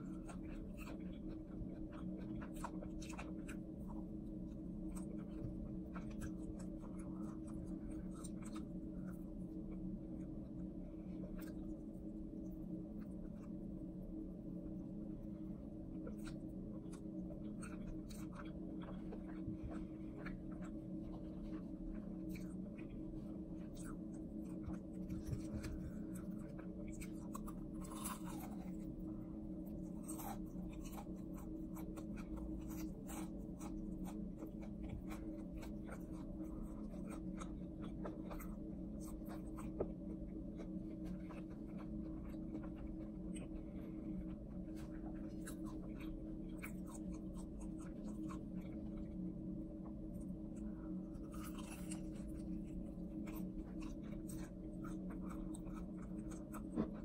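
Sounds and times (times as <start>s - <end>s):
crunchy chewing: 0.0s - 57.0s
steady low hum: 0.0s - 57.0s.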